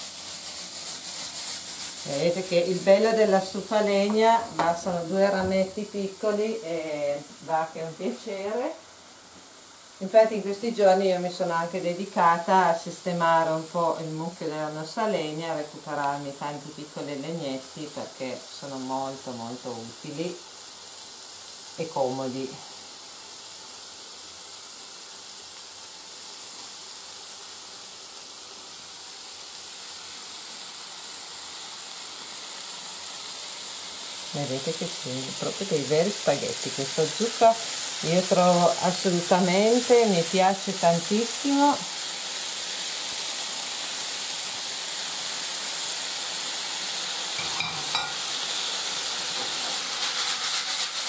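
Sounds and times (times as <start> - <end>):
vegetables sizzling in a pan: 0.0 - 51.0.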